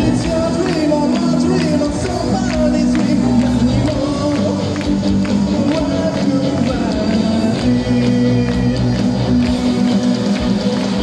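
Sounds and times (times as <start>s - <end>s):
audience clapping along: 0.0s - 11.0s
live rock music over loudspeakers: 0.0s - 11.0s.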